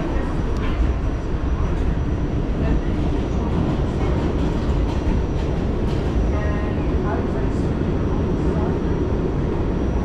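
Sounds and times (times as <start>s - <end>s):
rumble of wheels on rail: 0.0s - 10.0s.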